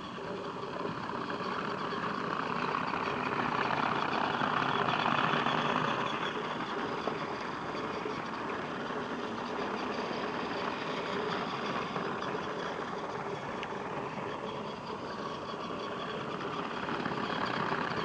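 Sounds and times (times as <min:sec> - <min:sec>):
toy train motor whirring: 0:00.1 - 0:18.0
toy wheels rattling on track: 0:00.2 - 0:18.0.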